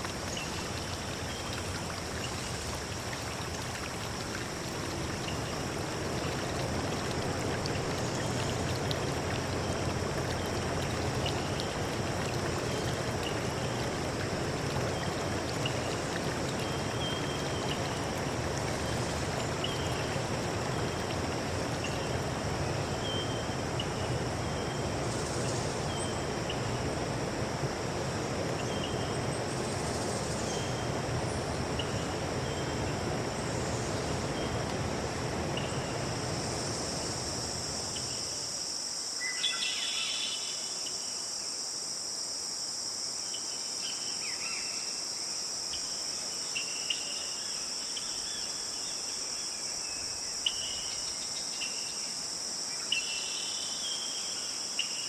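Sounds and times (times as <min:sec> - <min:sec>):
stream running: 0:00.0 - 0:43.1, 0:43.7 - 0:55.0.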